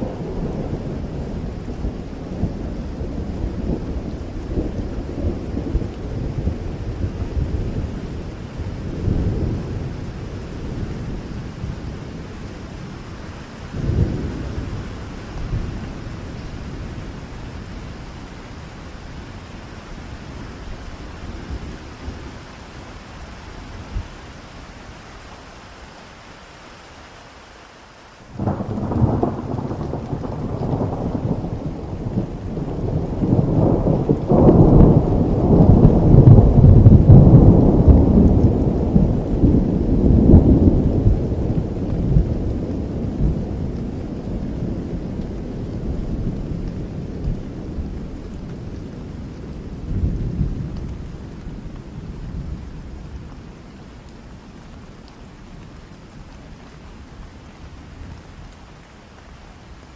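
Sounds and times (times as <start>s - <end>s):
thunder rumble: 0.0s - 24.6s, 28.3s - 58.6s
steady rain: 0.0s - 59.9s.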